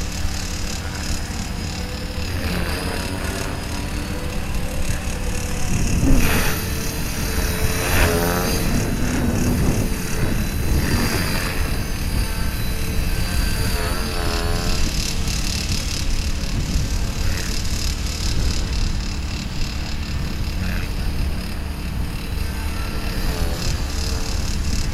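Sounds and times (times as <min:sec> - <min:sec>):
model helicopter rotor whine: 0:00.0 - 0:24.9.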